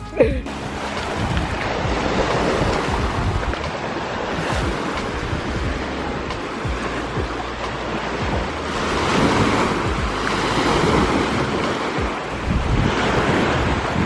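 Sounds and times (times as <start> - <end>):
wind gusting on microphone: 0.0 - 14.0
waves washing on pebble shore: 0.5 - 14.0.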